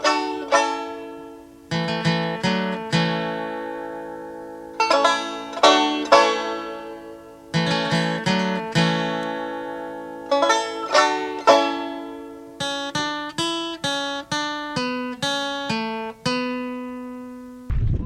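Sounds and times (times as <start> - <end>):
plucked string music: 0.0 - 17.7.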